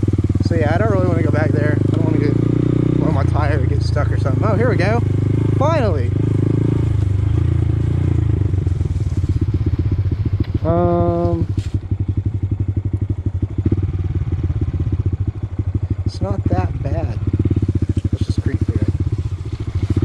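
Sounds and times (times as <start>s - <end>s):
motorcycle engine puttering: 0.0s - 20.0s.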